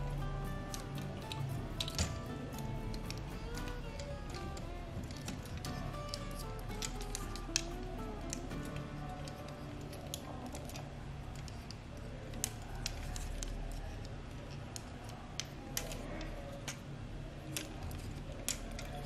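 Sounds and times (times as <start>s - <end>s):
plastic toy parts clicking: 0.0s - 19.0s
steady low hum: 0.0s - 19.0s.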